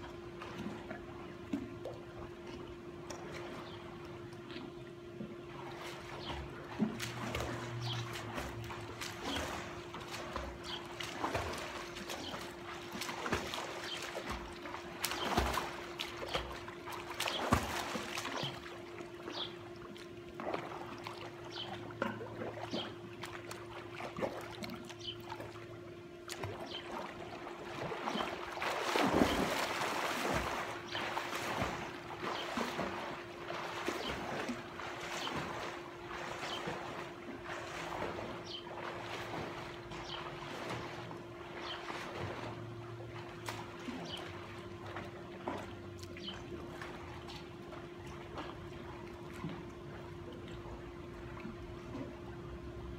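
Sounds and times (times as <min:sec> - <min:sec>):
steady low hum: 0:00.0 - 0:52.9
water splashing from swimming: 0:00.0 - 0:52.9.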